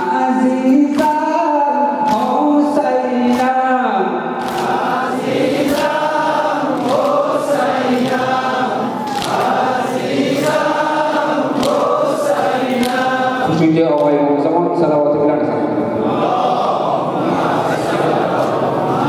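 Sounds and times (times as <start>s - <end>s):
men singing a lament together: 0.0s - 13.7s, 15.9s - 19.0s.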